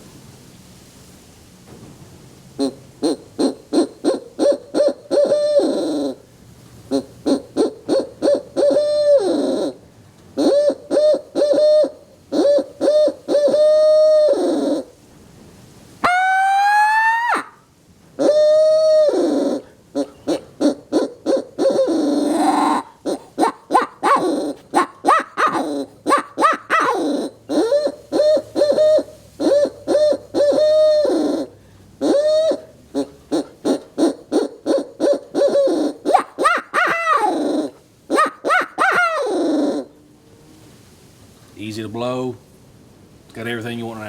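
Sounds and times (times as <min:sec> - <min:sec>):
fast short owl call notes: 0:02.6 - 0:06.3, 0:06.9 - 0:09.8, 0:10.4 - 0:15.0, 0:16.0 - 0:40.0
rising owl call screams: 0:02.6 - 0:06.3, 0:06.9 - 0:09.8, 0:10.4 - 0:15.0, 0:16.0 - 0:40.0
owl call hoots: 0:02.6 - 0:15.0, 0:16.0 - 0:40.0.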